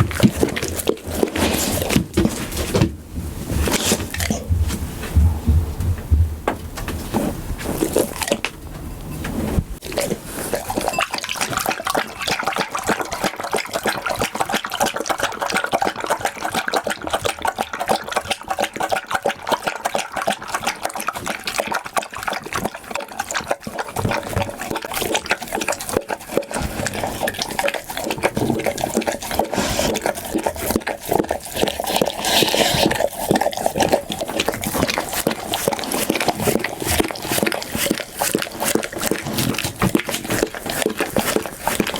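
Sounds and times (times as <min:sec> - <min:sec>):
dog eating with wet lapping: 0:00.0 - 0:41.9.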